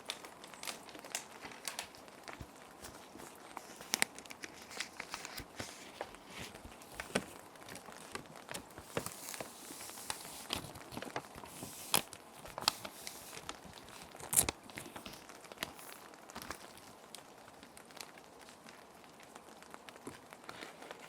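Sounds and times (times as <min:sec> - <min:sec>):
plastic sheet protectors crinkling: 0:00.0 - 0:21.0
rain hiss: 0:00.0 - 0:21.0.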